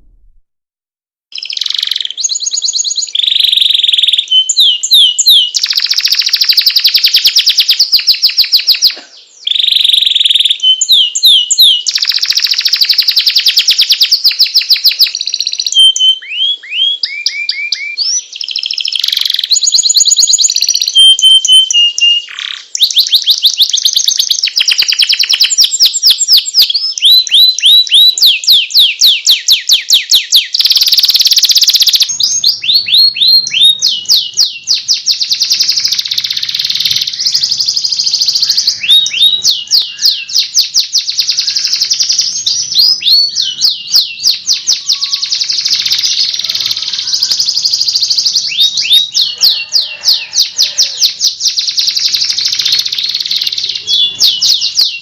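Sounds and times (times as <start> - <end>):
canary singing trills: 1.3 - 55.0.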